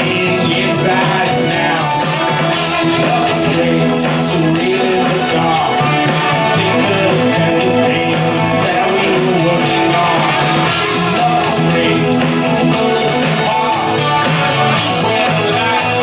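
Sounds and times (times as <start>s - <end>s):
live rock band playing: 0.0s - 16.0s
strummed electric guitar: 0.0s - 16.0s.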